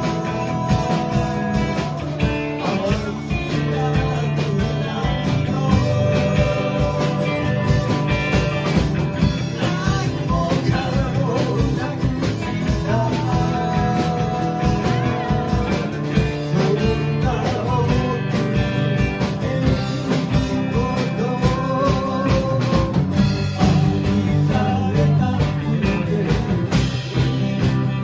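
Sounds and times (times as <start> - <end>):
drums: 0.0 - 28.0
guitars: 0.0 - 28.0
person singing: 0.0 - 28.0.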